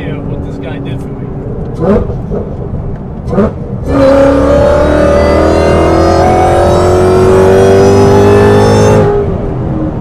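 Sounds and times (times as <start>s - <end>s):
car engine accelerating: 0.0s - 10.0s
supercharger whining: 0.0s - 10.0s.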